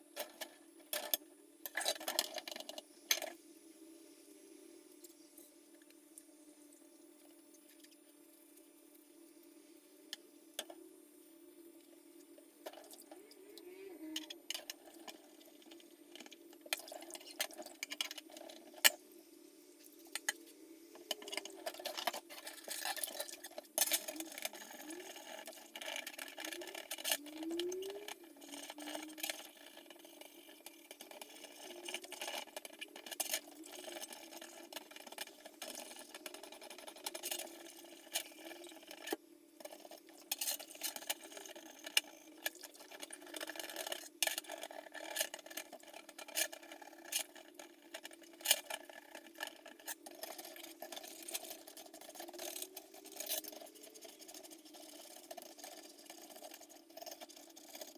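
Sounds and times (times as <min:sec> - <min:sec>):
small parts clicking and scraping: 0:00.2 - 0:03.4, 0:12.6 - 0:19.1, 0:19.8 - 0:57.9.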